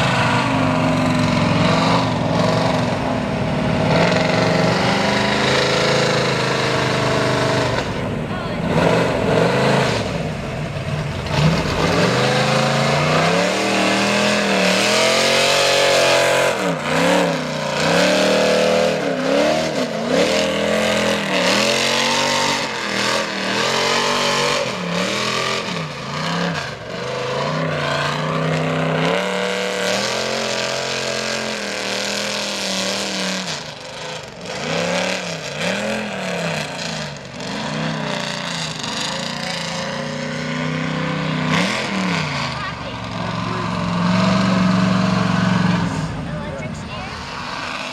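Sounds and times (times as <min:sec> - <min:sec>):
truck engine revving: 0:00.0 - 0:47.9.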